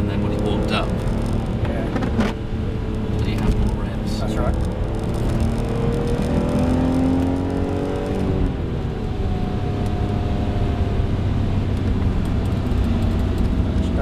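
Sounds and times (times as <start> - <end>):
car engine accelerating: 0.0 - 14.0
road and tyre rumble: 0.0 - 14.0.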